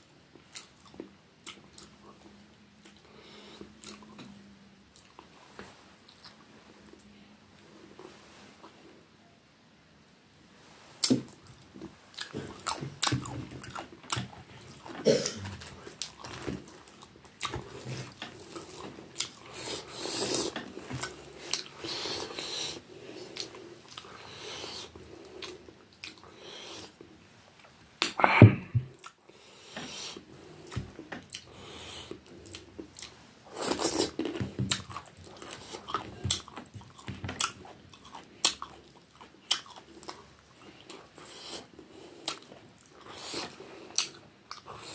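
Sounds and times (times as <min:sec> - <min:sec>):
person chewing food: 0:00.0 - 0:05.4, 0:06.0 - 0:07.1, 0:11.0 - 0:44.9.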